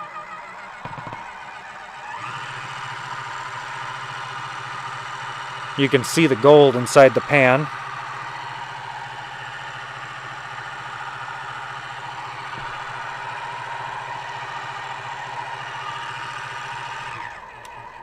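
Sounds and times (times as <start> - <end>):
electric motor humming: 0.0 - 18.0
motor winding down: 0.0 - 18.0.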